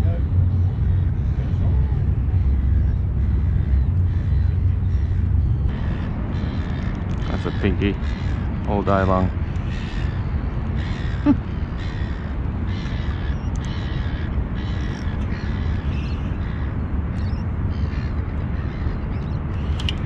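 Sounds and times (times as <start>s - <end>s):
bird calling: 0.0s - 20.0s
steady low rumble: 0.0s - 20.0s.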